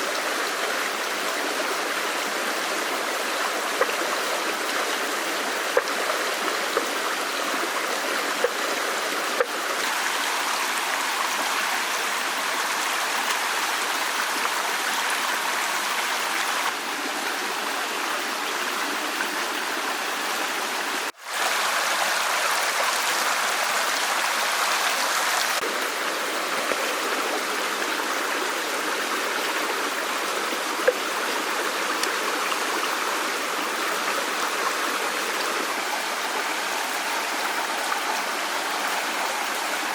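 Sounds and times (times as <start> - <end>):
stream of water rushing: 0.0 - 39.9.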